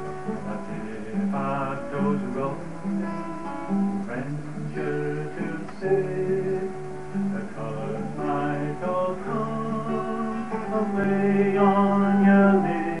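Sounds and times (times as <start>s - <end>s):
folk song singing: 0.0s - 13.0s
strummed acoustic guitar: 0.0s - 13.0s.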